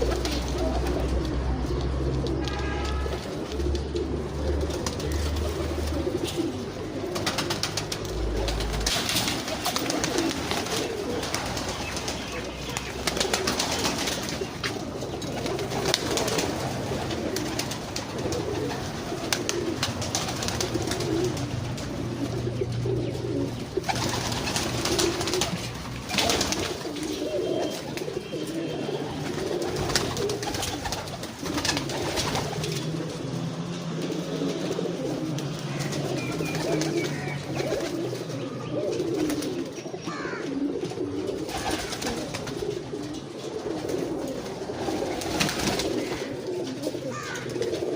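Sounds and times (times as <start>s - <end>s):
pigeons cooing: 0.0s - 47.9s.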